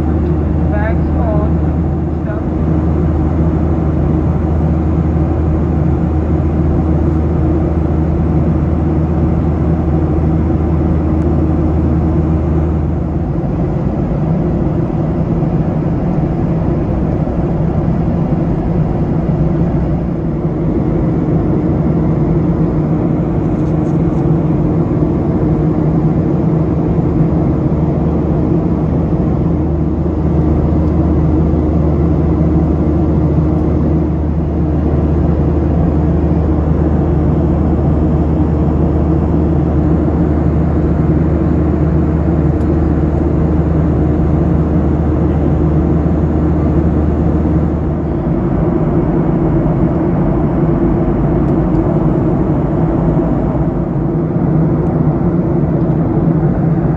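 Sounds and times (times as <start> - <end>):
airliner cabin airflow and engine: 0.0 - 56.9
low steady hum: 0.0 - 56.9.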